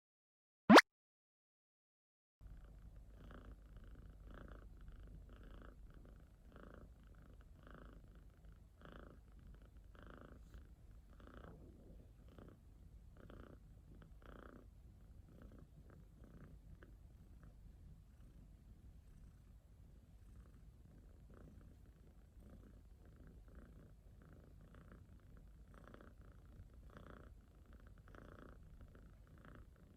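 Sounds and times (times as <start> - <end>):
cat purring: 2.5 - 29.9.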